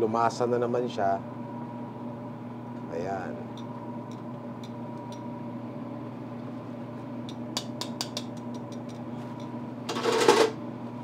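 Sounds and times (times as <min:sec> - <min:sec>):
ventilation fans humming: 0:00.0 - 0:11.0.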